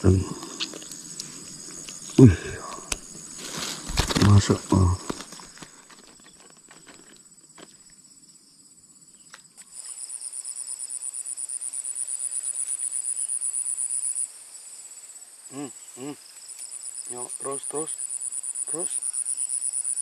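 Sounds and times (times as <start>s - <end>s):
high pulsing insect trill: 0.0s - 20.0s
steady high insect drone: 0.0s - 20.0s.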